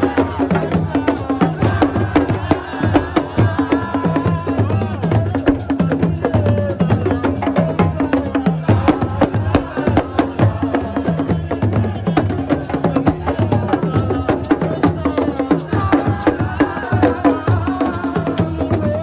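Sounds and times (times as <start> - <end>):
fast drumming: 0.0 - 19.0
voices: 0.0 - 19.0.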